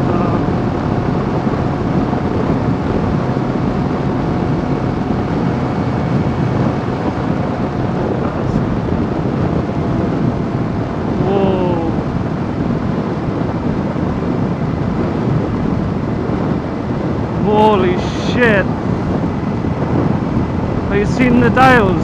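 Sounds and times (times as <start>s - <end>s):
road noise: 0.0s - 22.0s
wind rushing over microphone: 0.0s - 22.0s.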